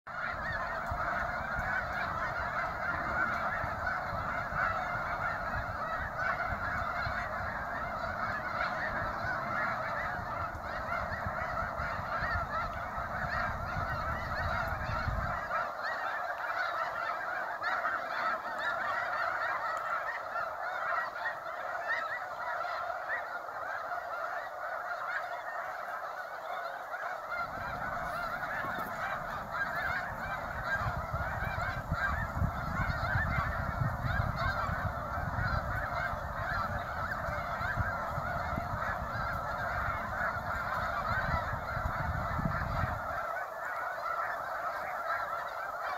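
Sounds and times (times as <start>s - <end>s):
geese honking and calling: 0.1s - 45.9s.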